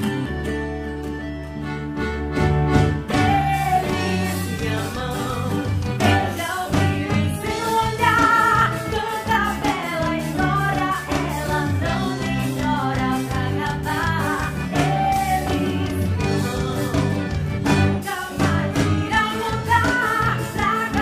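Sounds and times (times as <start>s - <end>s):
folk dance music with steady beat: 0.0s - 21.0s.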